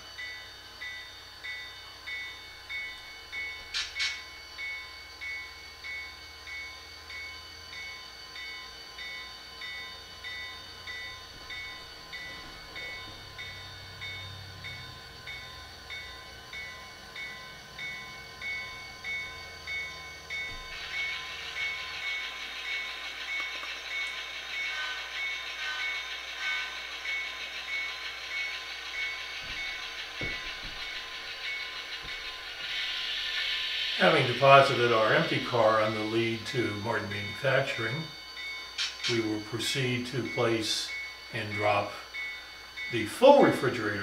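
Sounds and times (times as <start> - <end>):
locomotive bell ringing: 0.0 - 44.0
steady hiss: 7.8 - 44.0.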